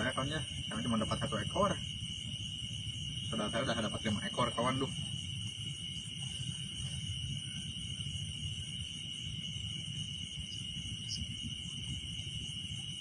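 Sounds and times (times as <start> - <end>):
crickets trilling: 0.0 - 13.0
low rumbling noise: 0.0 - 13.0.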